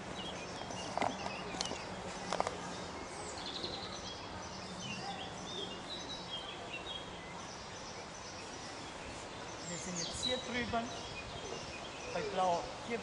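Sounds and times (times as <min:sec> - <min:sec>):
background noise: 0:00.0 - 0:13.0
small birds chirping: 0:00.0 - 0:13.0.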